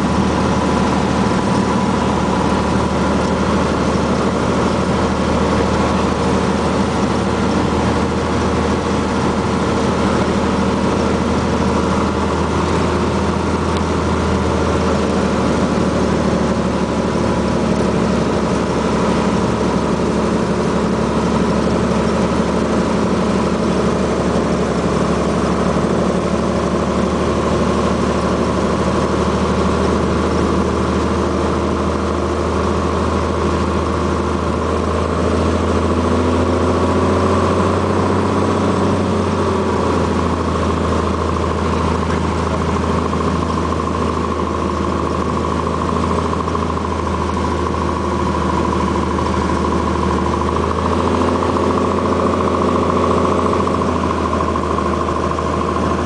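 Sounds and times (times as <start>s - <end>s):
airplane engine and propeller: 0.0s - 56.0s.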